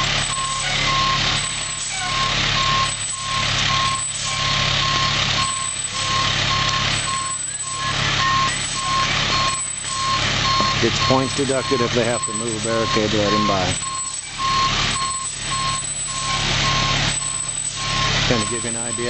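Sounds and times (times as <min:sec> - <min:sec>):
back-up alarm beeping: 0:00.0 - 0:19.0
idling engine hum: 0:00.0 - 0:19.0.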